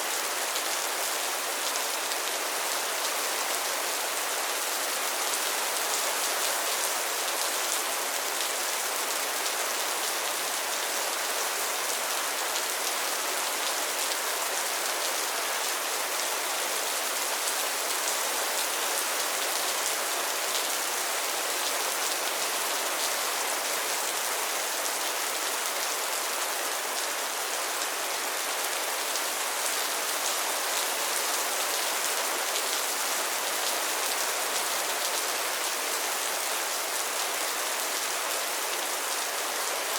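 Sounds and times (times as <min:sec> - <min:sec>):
rain falling on pond water: 0:00.0 - 0:39.9.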